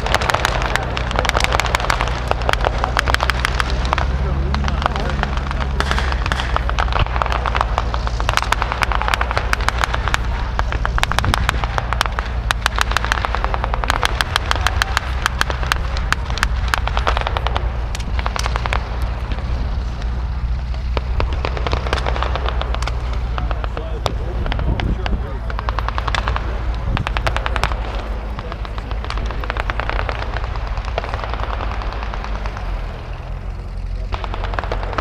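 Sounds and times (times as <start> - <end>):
blank gunfire: 0.0 - 35.0
vehicle engine humming: 0.0 - 35.0.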